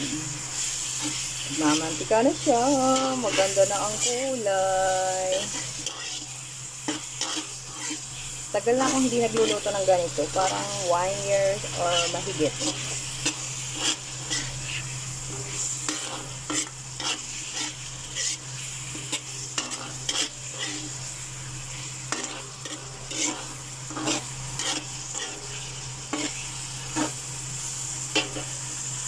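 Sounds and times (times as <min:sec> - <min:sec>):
meat sizzling in oil: 0:00.0 - 0:29.0
metal spoon scraping a wok: 0:00.0 - 0:29.0.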